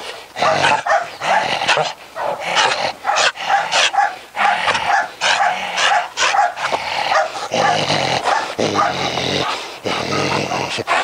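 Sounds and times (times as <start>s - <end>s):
dog barking: 0.4s - 11.0s.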